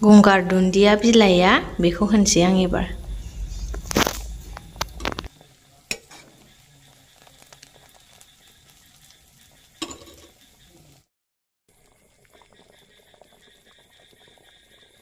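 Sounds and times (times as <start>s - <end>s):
gravy sizzling in a frying pan: 0.6s - 11.1s, 11.7s - 15.0s.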